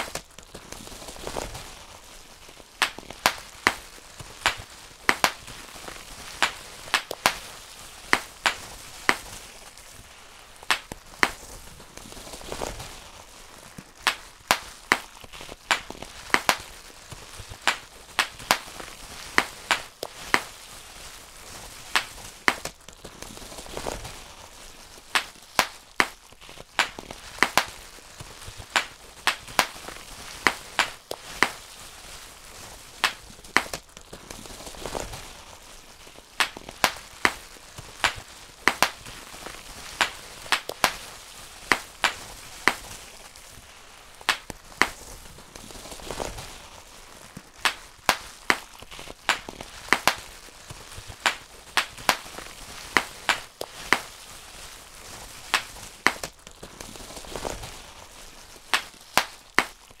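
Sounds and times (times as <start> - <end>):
bubble wrap popping: 0.0 - 60.0.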